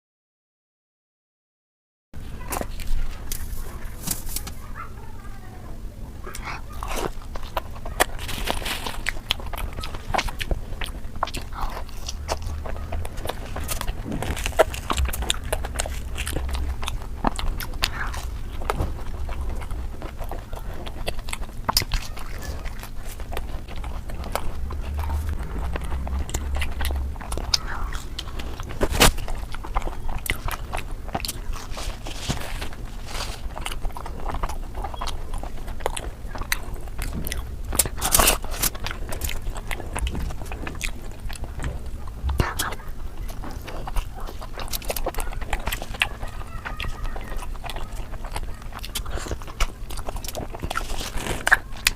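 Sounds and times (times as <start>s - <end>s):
person biting and chewing food: 2.2s - 4.8s, 6.1s - 51.9s
small mouth clicks: 6.2s - 51.9s.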